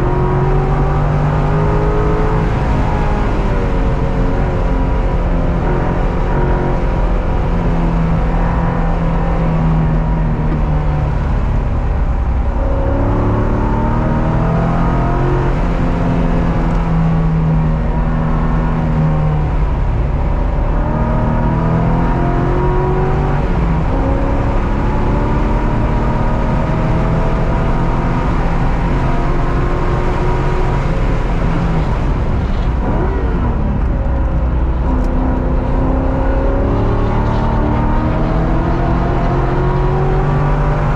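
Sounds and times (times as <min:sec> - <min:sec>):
racing car engine accelerating: 0:00.0 - 0:40.9
road and wind noise: 0:00.0 - 0:40.9.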